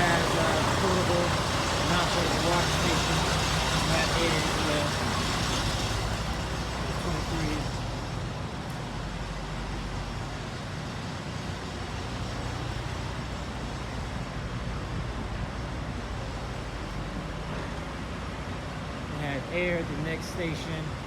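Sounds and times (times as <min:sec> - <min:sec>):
diesel truck engines idling: 0:00.0 - 0:21.0
traffic noise: 0:00.0 - 0:21.0.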